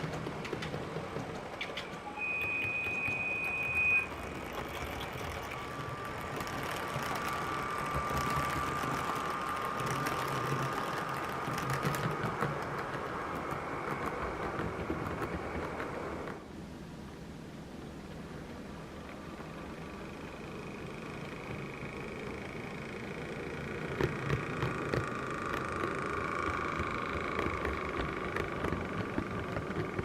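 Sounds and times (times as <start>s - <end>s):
model train whine and rumbling: 0.0s - 30.0s.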